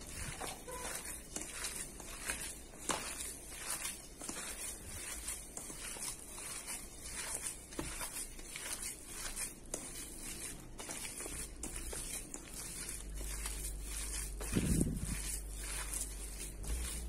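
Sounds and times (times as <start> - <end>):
hand squelching meat mixture: 0.0 - 17.0.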